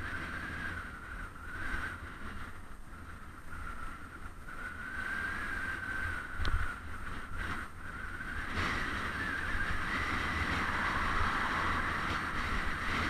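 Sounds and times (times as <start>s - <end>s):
bicycle rolling on road: 0.0s - 13.0s
wavering high hum: 0.0s - 13.0s
wind buffeting microphone: 0.0s - 13.0s.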